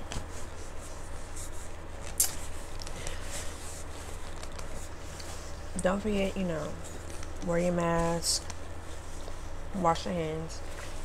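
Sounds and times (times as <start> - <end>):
low steady hum: 0.0 - 11.0
paper napkin rustling: 0.0 - 11.0.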